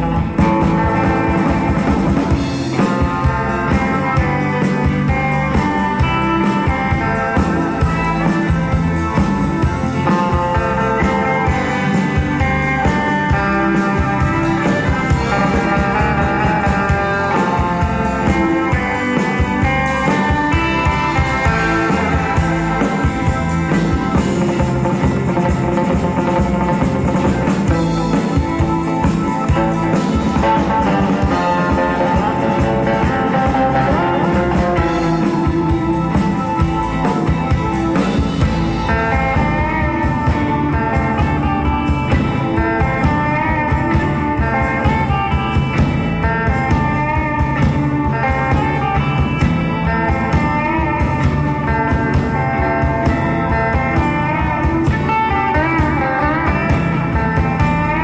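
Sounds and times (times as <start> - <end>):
bass guitar: 0.0 - 58.0
drum kit beat: 0.0 - 58.0
electric lead guitar melody: 0.0 - 58.0
rhythm guitar: 0.0 - 58.0.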